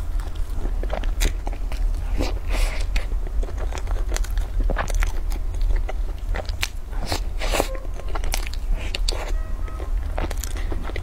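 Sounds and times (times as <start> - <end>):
constant low hum: 0.0 - 11.0
person biting and chewing food: 0.0 - 11.0.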